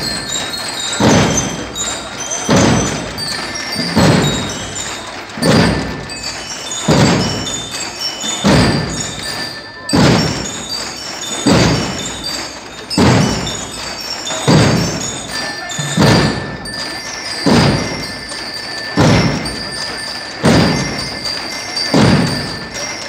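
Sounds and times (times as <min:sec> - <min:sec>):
bass drums beating: 0:00.0 - 0:23.0
high bell-like notes: 0:00.0 - 0:23.0.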